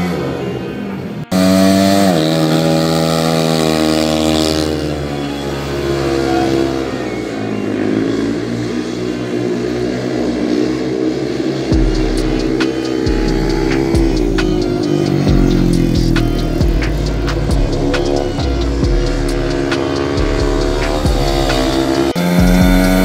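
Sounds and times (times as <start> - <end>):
motorcycle engine running hard: 0.0 - 23.0.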